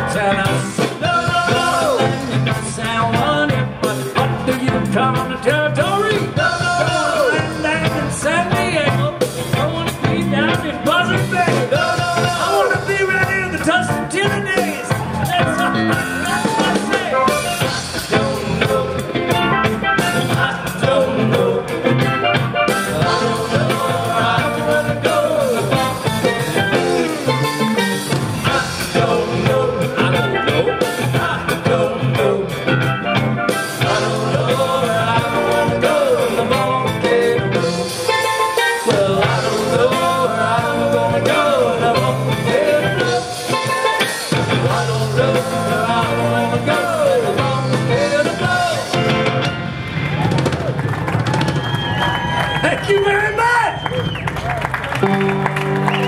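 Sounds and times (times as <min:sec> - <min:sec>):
man singing: 0:00.0 - 0:27.4, 0:28.3 - 0:49.5
electric guitar: 0:00.0 - 0:52.9, 0:53.7 - 0:56.0
drums: 0:00.0 - 0:56.0.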